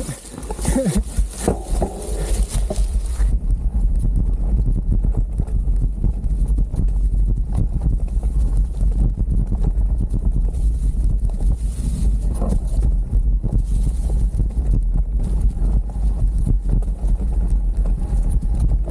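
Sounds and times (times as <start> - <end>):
bike tyres knocking and rattling: 0.0 - 18.9
wind rumble on microphone: 0.0 - 18.9.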